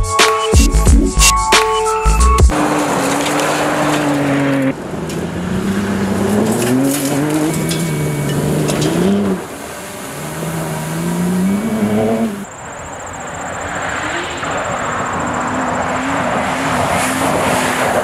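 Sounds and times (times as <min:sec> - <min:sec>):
truck engine accelerating: 0:02.0 - 0:12.6, 0:13.6 - 0:18.0.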